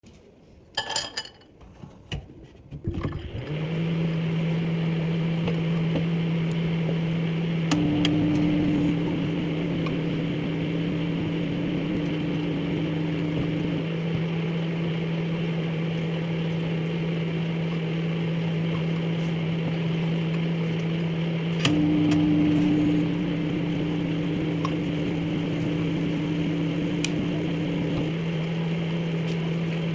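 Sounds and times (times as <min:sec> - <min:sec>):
microwave oven humming: 0:03.1 - 0:29.9.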